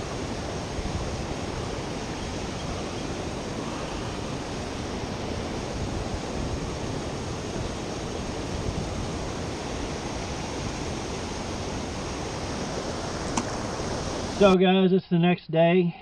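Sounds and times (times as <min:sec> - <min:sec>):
water rushing over spillway: 0:00.0 - 0:14.6.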